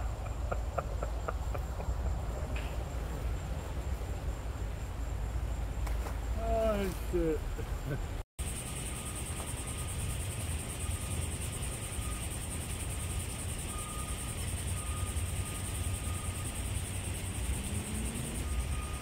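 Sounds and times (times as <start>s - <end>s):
constant high hiss: 0.0s - 19.0s.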